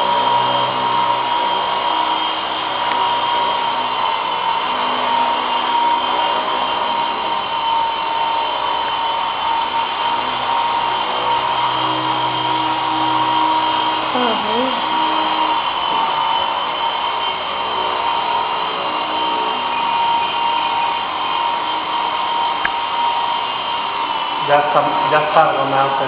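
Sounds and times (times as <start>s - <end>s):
toy helicopter rotor whine: 0.0s - 26.0s.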